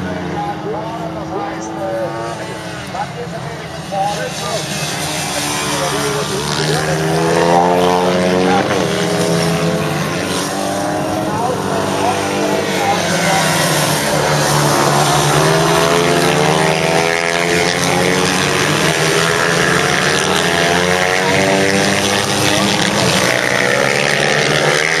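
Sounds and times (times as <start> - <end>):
motorcycles racing past: 0.0 - 25.0.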